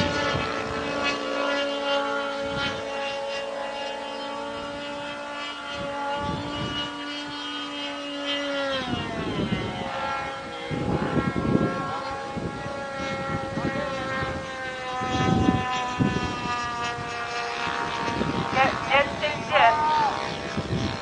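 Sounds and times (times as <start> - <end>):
model airplane engine: 0.0 - 21.0.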